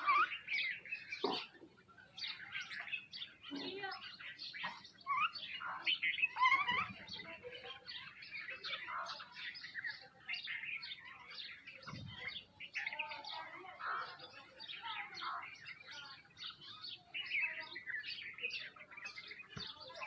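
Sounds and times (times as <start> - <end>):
small birds chirping and twittering: 0.0 - 20.0.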